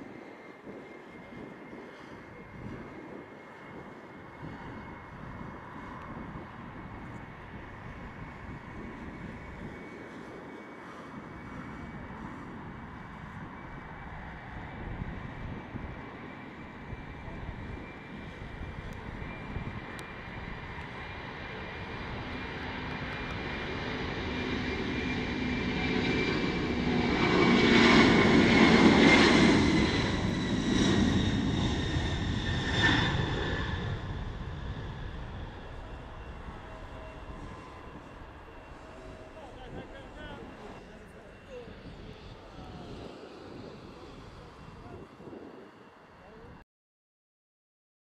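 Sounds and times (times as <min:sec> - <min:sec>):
jet engines at takeoff: 0:00.0 - 0:46.6.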